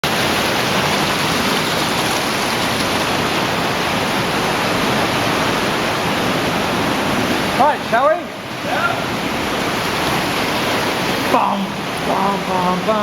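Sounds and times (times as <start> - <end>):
cave stream rushing water: 0.0 - 13.0.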